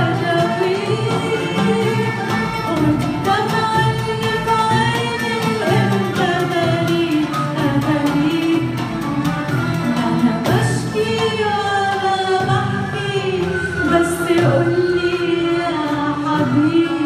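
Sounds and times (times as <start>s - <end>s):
bowed strings: 0.0s - 17.0s
hand drums: 0.0s - 17.0s
plucked string instruments: 0.0s - 17.0s
woman singing: 0.0s - 17.0s.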